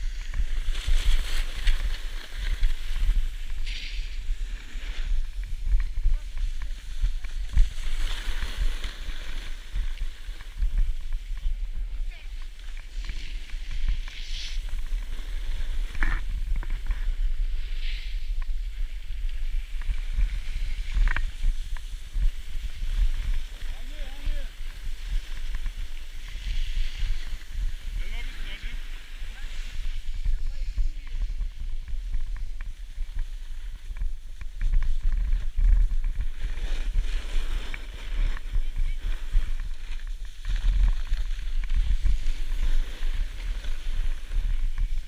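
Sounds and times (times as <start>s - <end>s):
snowboard edge scraping snow: 0.0s - 45.0s
wind rumbling on microphone: 0.0s - 45.0s.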